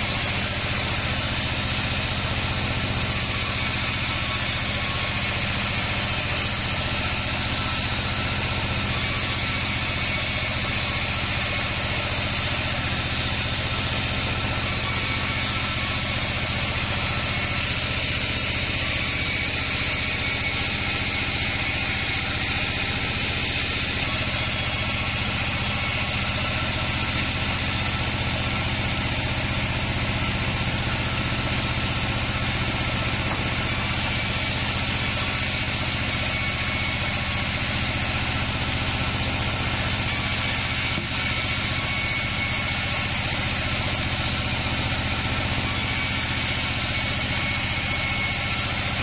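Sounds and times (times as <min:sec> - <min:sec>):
band saw ripping log: 0:00.0 - 0:49.0.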